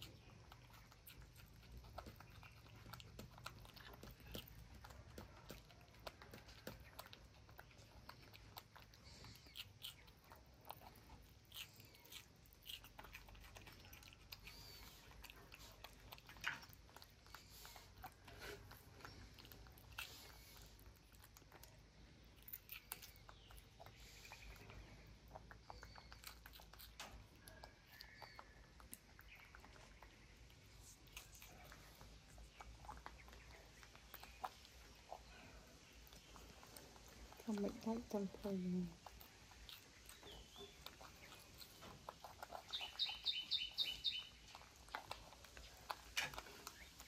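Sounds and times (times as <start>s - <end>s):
monkeys crunching vegetables: 0.0s - 47.0s.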